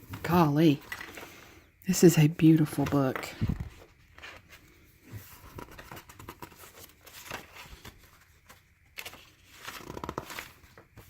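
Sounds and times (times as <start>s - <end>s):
paper pages rustling and turning: 0.0s - 1.5s, 2.5s - 11.0s.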